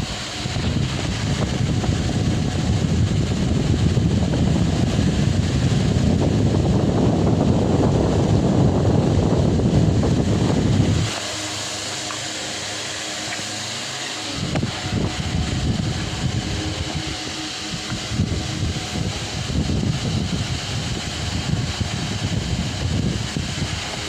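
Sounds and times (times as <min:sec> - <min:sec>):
fan air buffeting microphone: 0:00.0 - 0:24.0
fan hum: 0:00.0 - 0:24.0.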